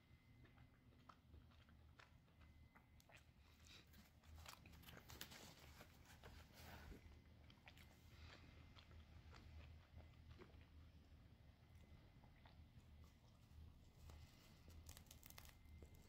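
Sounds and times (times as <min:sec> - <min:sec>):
crunchy chewing of pizza: 0:00.0 - 0:16.0.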